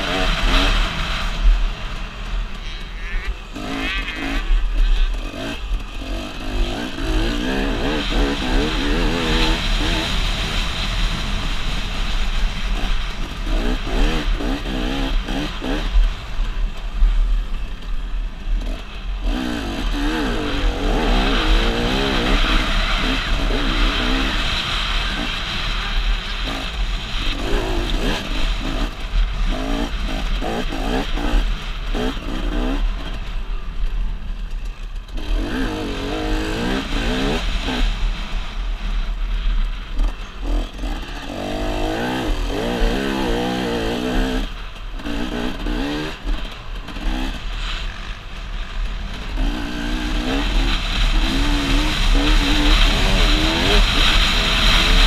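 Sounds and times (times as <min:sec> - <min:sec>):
dirt bike engine revving: 0:00.0 - 0:16.8, 0:17.4 - 0:33.3, 0:34.5 - 0:38.9, 0:40.0 - 0:55.0.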